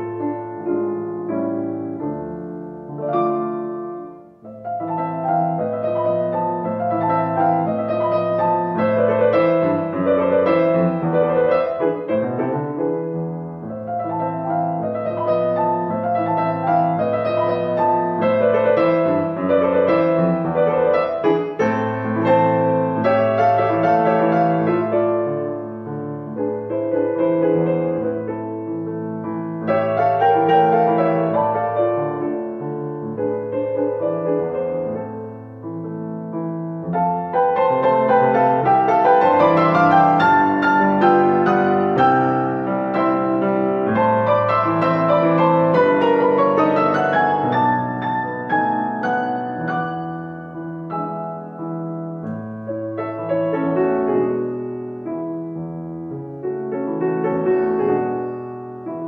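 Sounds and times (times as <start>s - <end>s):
solo grand piano: 0.0s - 59.0s.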